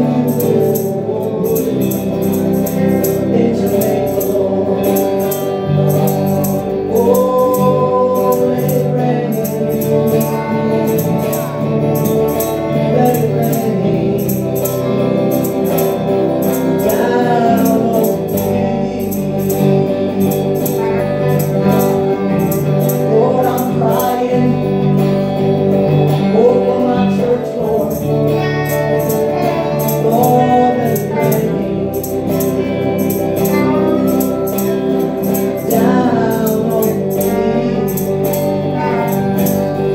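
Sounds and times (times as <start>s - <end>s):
high percussion beat: 0.0s - 25.1s, 27.4s - 39.9s
electric guitar: 0.0s - 39.9s
keyboard chords: 0.0s - 39.9s.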